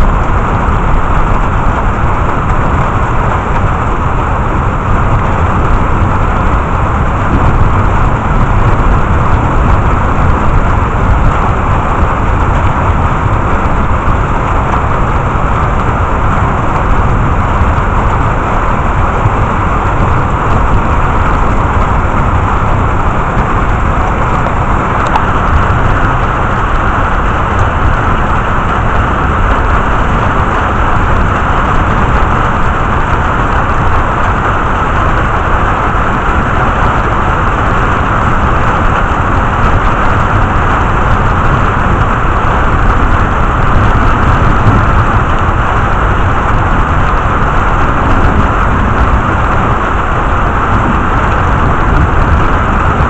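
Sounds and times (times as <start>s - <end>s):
deep low rumble: 0.0s - 53.0s
heavy rain rushing hiss: 0.0s - 53.0s.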